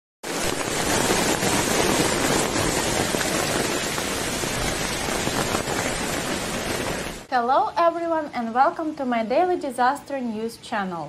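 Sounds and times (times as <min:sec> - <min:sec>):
heavy rain hiss: 0:00.2 - 0:10.8.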